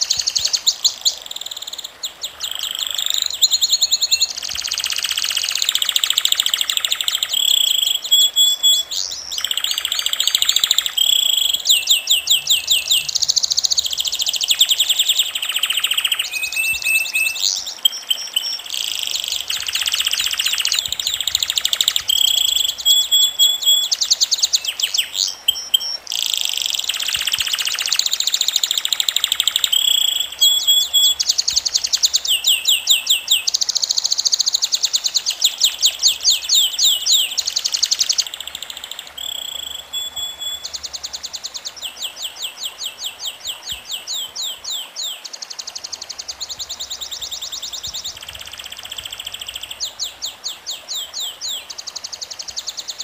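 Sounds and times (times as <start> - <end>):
songbirds trilling: 0.0 - 53.0.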